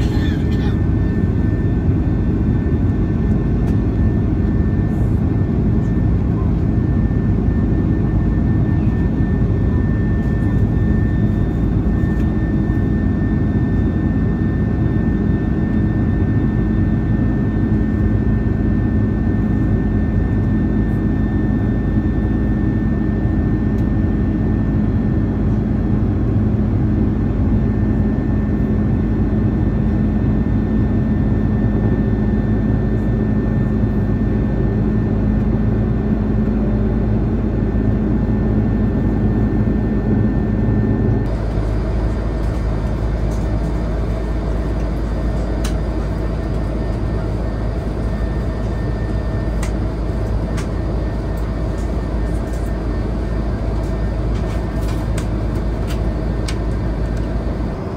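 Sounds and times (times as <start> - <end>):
jet engine and airflow rush: 0.0 - 57.9.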